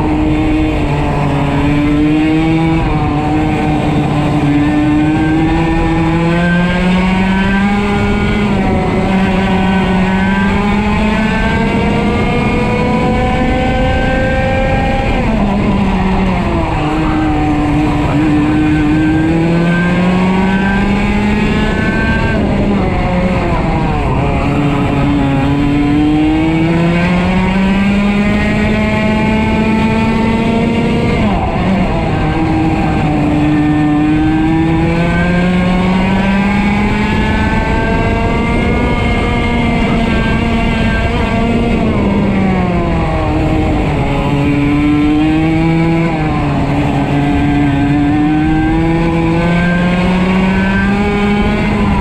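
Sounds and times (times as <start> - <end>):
two-stroke kart engine racing: 0.0 - 52.0.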